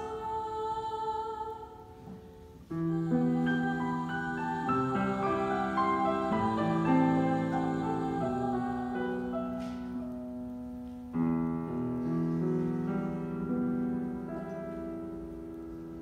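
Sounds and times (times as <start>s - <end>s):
piano playing slow chords: 2.7s - 16.0s.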